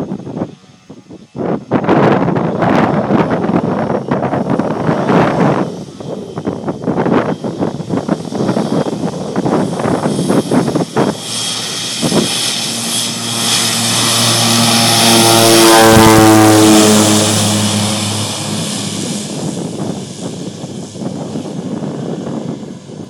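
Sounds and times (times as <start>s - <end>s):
propeller plane passing by: 0.0s - 23.0s.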